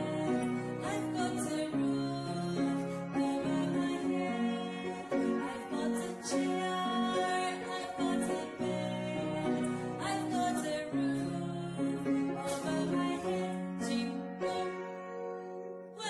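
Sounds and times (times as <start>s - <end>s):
upright piano playing a tune: 0.0s - 16.0s.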